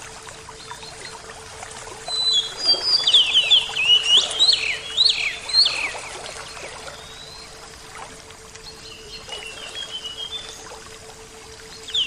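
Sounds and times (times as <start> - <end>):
songbird singing: 0.5 - 7.8, 8.5 - 10.8, 11.6 - 12.0.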